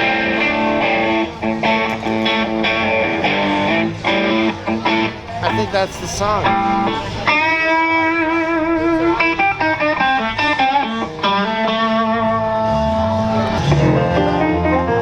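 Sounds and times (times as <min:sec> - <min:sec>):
electric guitar bent notes: 0:00.0 - 0:15.0.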